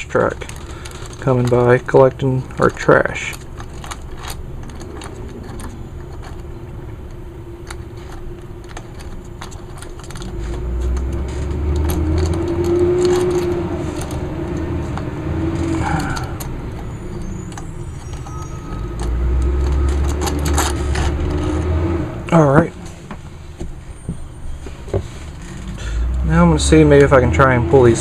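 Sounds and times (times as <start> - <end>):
clicks and metallic rattles: 0.0 - 27.2
garbage truck engine rumbling: 0.0 - 28.0.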